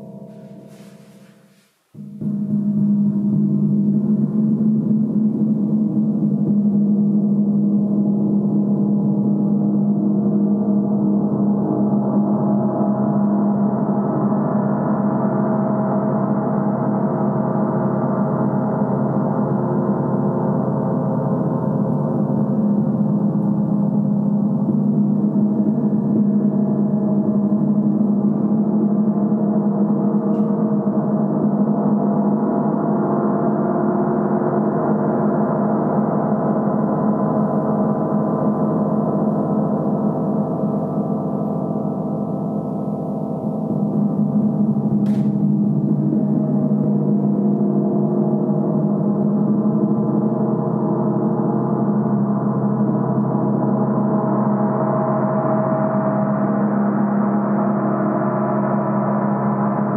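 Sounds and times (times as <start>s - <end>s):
gong sustained wash: 0.0s - 1.4s, 10.8s - 59.9s.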